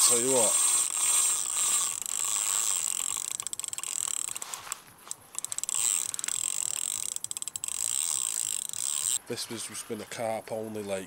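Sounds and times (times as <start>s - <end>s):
fishing reel clicking: 0.0s - 9.2s.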